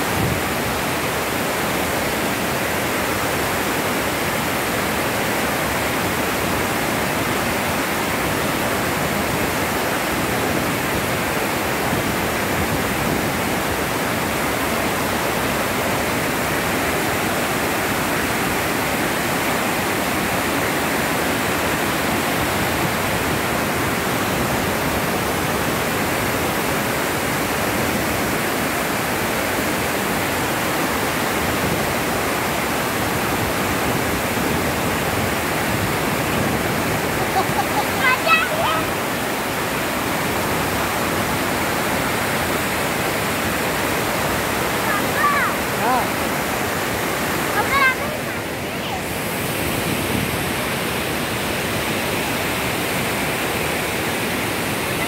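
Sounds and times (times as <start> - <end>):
water pouring down spillway: 0.0 - 55.0.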